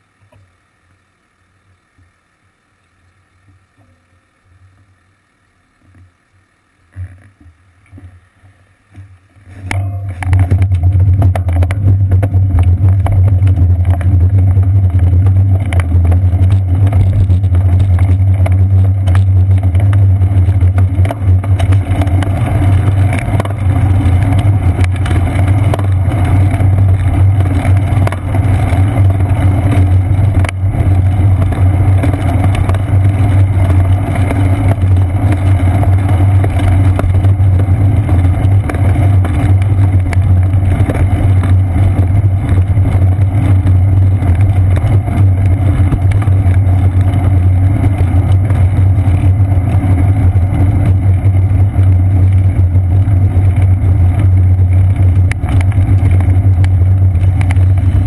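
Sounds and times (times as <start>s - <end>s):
tyre on pavement vibration: 6.8s - 58.0s
wind noise: 9.5s - 58.0s.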